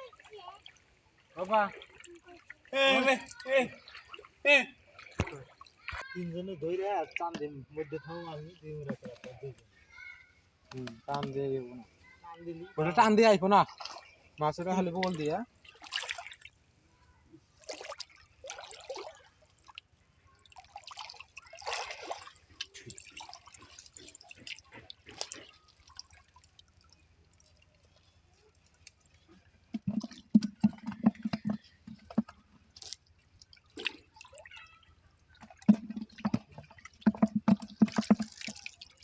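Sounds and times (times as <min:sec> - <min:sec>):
water splashing and dripping: 0:00.0 - 0:07.5, 0:12.9 - 0:16.7, 0:17.6 - 0:39.0.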